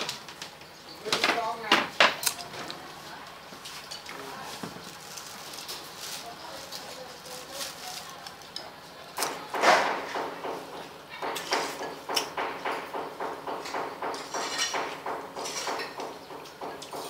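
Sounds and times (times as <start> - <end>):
people eating noodle soup: 0.0 - 17.0.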